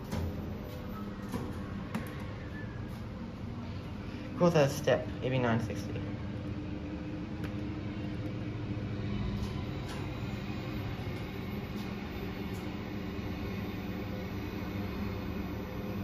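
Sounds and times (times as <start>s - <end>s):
lift car hum and whoosh: 0.0s - 15.8s.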